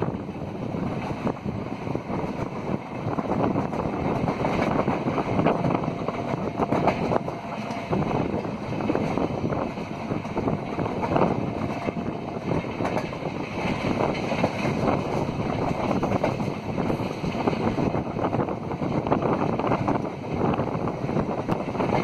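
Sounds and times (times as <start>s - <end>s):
train wheels rumbling on track: 0.0s - 22.0s
wind buffeting microphone: 0.0s - 22.0s.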